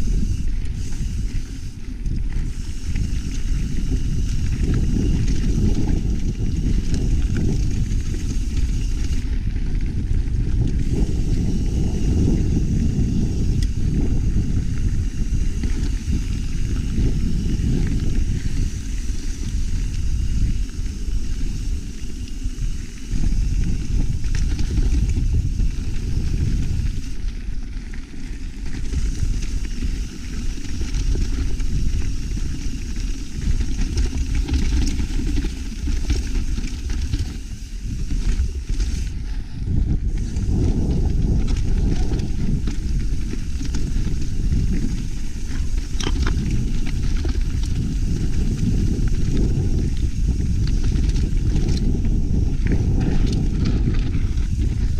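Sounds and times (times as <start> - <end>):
bike rattles: 0.0 - 54.9
bike tyre noise on dirt: 0.0 - 54.9
wind rumbling on microphone: 0.0 - 54.9.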